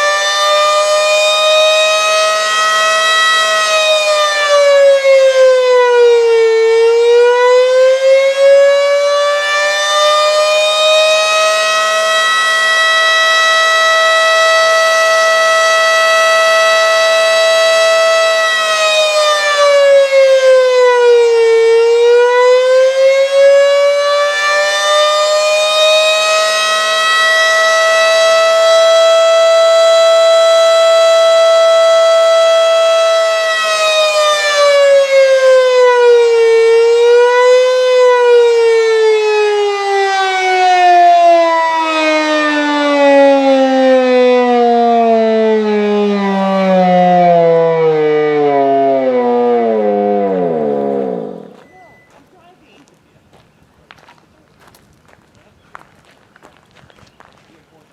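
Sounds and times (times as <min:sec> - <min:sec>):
warning siren: 0:00.0 - 0:52.3.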